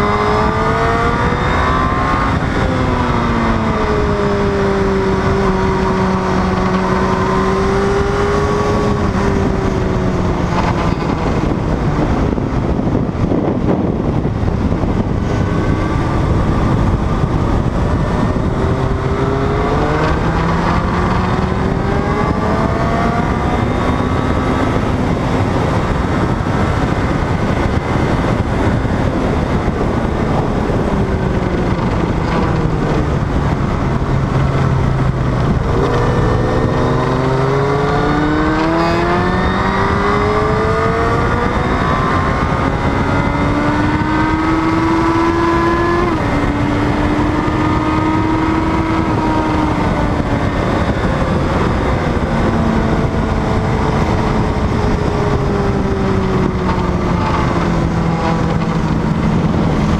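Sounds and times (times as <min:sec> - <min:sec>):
heavy wind rush: 0:00.0 - 0:59.9
motorcycle engine revving: 0:00.0 - 0:59.9.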